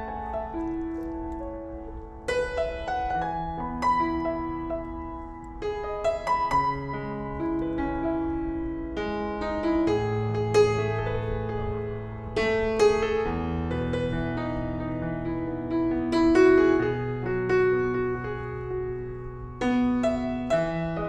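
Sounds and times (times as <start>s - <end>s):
gentle piano piece: 0.0s - 21.0s.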